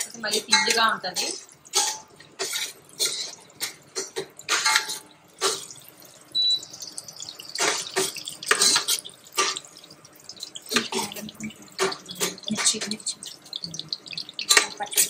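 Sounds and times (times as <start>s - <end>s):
ladle stirring in pot: 0.0s - 15.0s
spices sizzling in hot oil: 0.0s - 15.0s.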